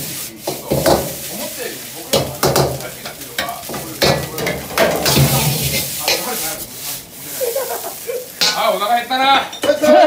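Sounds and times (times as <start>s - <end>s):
rice sizzling in a wok: 0.0s - 10.0s.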